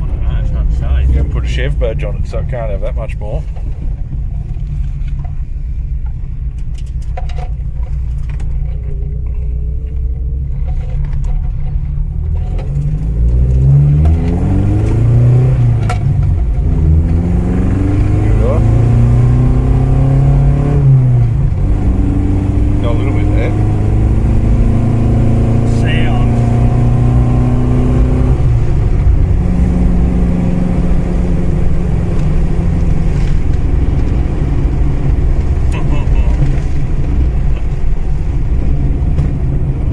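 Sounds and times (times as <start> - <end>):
car engine droning and accelerating: 0.0 - 39.9
rattly exhaust muffler: 0.0 - 39.9.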